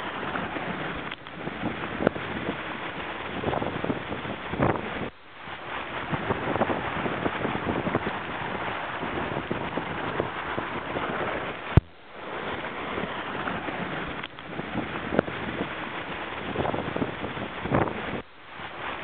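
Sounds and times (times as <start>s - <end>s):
water rushing past hull: 0.0s - 19.0s
wind buffeting microphone: 0.0s - 19.0s.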